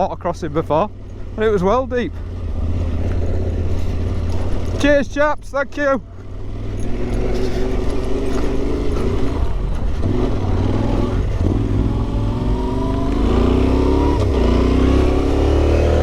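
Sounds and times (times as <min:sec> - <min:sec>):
motorcycle engine accelerating: 0:00.7 - 0:05.2, 0:06.1 - 0:16.0.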